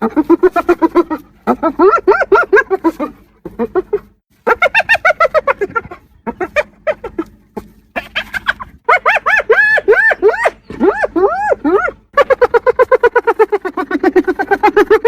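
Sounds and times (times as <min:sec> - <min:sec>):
hyena laughing: 0:00.0 - 0:15.0.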